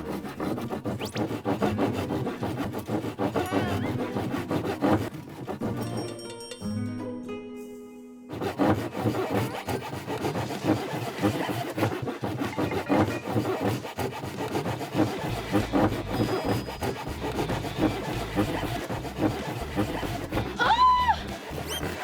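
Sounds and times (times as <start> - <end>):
hand saw cutting wood: 0.0 - 6.0, 8.3 - 22.0.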